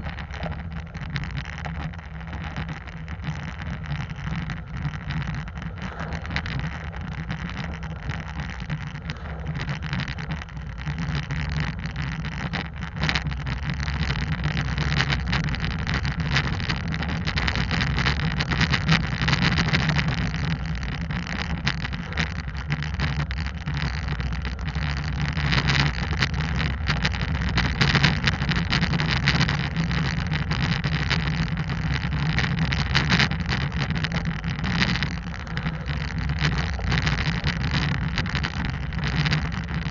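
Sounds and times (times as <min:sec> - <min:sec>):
ticks and knocks from road: 0:00.0 - 0:39.9.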